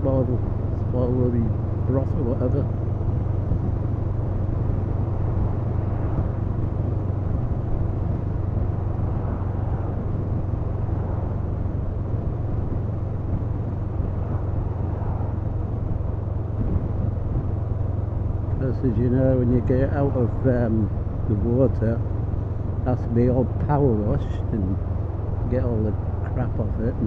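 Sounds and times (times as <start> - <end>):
motorcycle engine cruising: 0.0 - 27.0
road and wind noise: 0.0 - 27.0.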